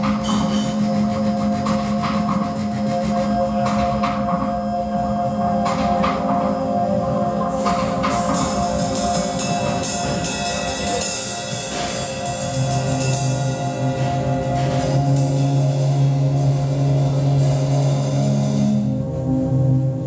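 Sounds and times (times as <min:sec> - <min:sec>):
drum kit with cymbal hits: 0:00.0 - 0:19.0
low sustained note: 0:00.0 - 0:20.0.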